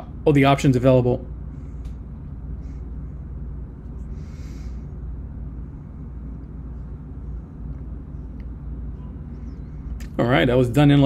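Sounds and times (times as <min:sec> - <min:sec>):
low room noise rumble: 0:00.0 - 0:11.0.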